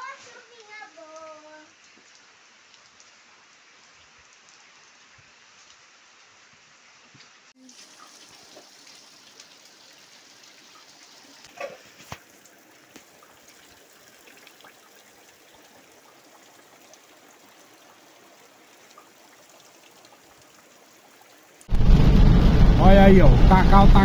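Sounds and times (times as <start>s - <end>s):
water dripping: 0.0s - 5.9s, 7.2s - 21.8s
rain falling: 0.0s - 24.0s.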